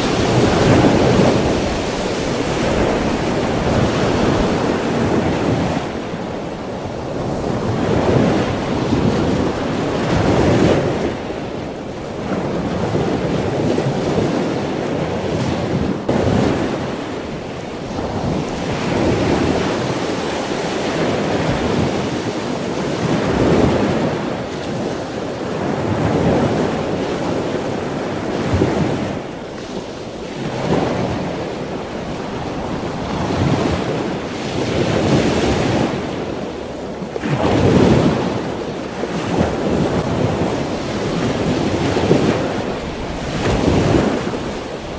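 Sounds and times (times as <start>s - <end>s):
waves breaking: 0.0s - 44.9s.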